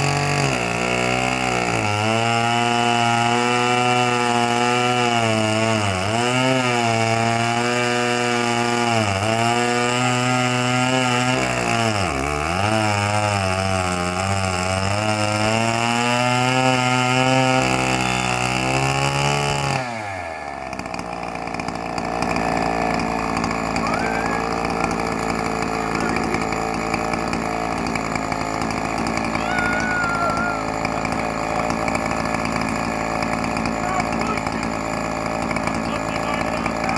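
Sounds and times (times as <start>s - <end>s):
chainsaw cutting log: 0.0s - 36.9s.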